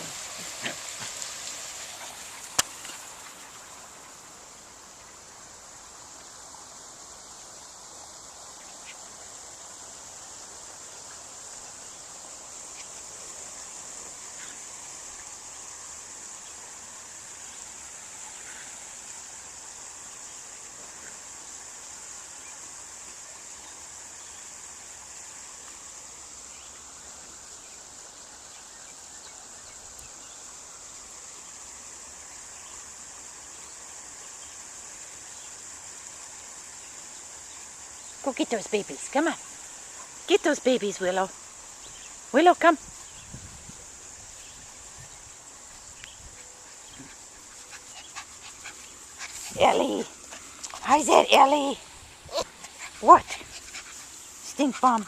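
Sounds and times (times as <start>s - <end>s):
faint background hiss: 0.0s - 55.0s
insect chorus drone: 0.0s - 55.0s.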